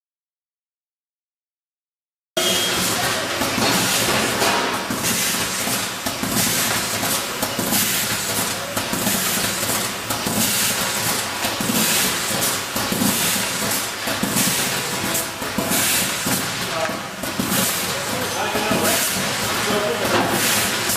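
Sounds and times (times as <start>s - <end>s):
machine clacks: 2.4s - 20.9s
packing machinery hiss and hum: 2.4s - 20.9s.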